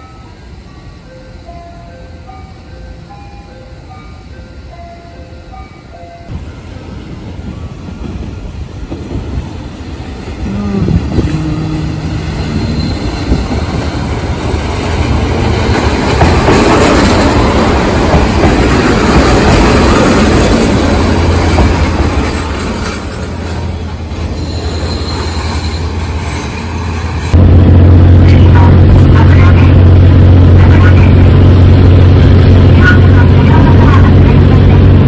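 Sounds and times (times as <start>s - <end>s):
diesel railcar engine: 0.0s - 35.0s
train wheel noise: 0.0s - 35.0s.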